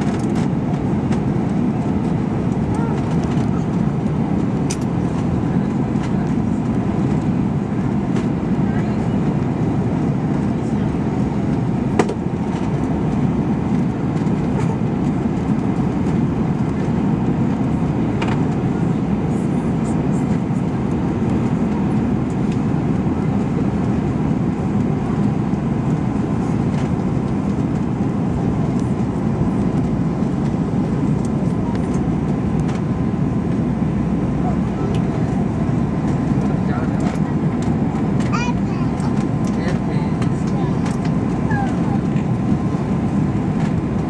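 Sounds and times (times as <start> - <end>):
airflow rushing in aircraft cabin: 0.0 - 44.0
jet engines droning: 0.0 - 44.0.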